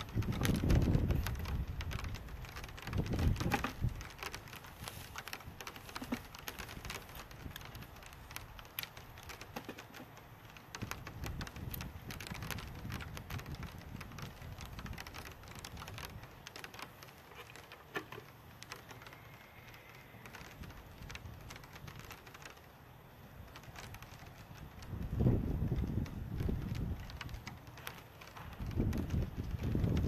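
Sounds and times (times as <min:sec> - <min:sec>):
wooden parts clicking: 0:00.0 - 0:30.0.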